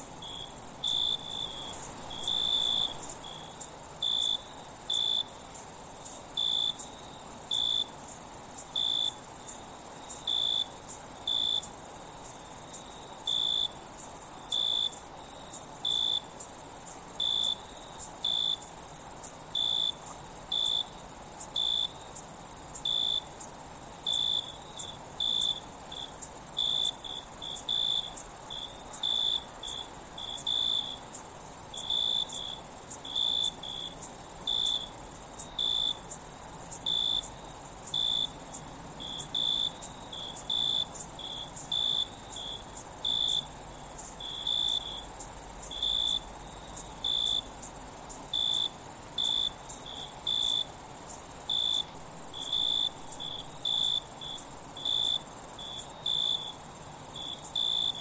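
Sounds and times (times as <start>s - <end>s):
short cricket chirps: 0.0s - 13.8s, 14.5s - 58.0s
crickets trilling: 0.0s - 58.0s.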